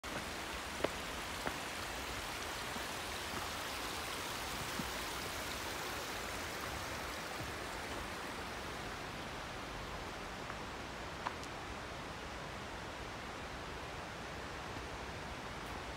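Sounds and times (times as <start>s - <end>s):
rushing river water: 0.0s - 15.9s.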